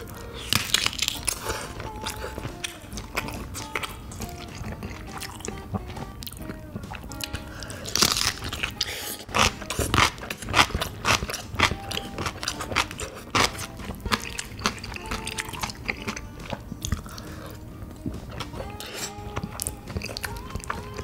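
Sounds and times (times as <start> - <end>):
loud bite crunch: 0.0 - 5.6, 6.2 - 17.6
crunchy chewing: 0.0 - 21.0.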